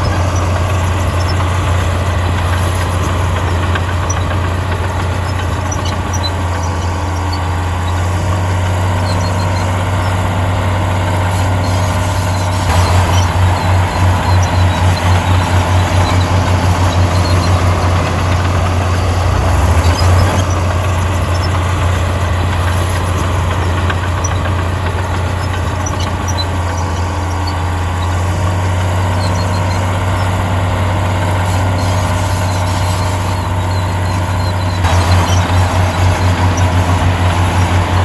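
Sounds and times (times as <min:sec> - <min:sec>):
diesel engine droning: 0:00.0 - 0:38.0
faint squeaks and clicks: 0:00.0 - 0:38.0.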